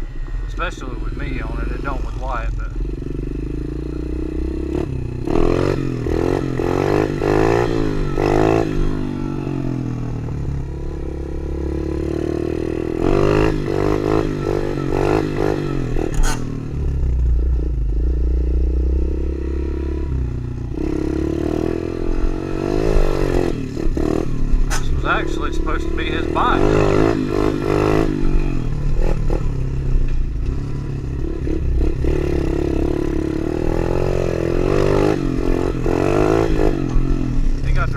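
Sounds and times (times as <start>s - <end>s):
motorbike engine revving: 0.0s - 37.9s.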